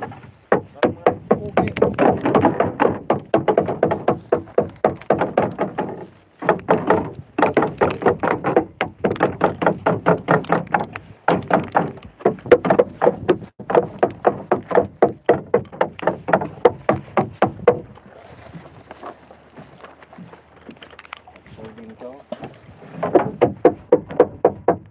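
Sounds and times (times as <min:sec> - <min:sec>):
fast wooden knocking on boat hull: 0:00.0 - 0:18.0, 0:22.9 - 0:24.9.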